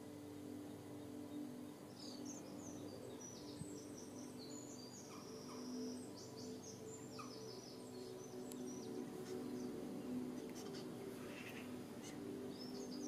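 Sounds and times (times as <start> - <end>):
low steady hum: 0.0 - 13.0
songbirds chirping and trilling: 0.0 - 13.0.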